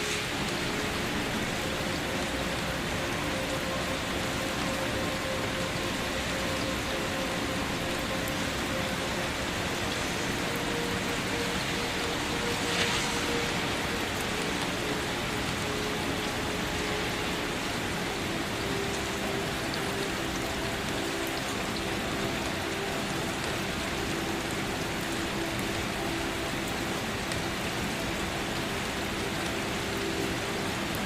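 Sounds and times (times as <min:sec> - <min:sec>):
rain pattering on a surface: 0:00.0 - 0:31.0.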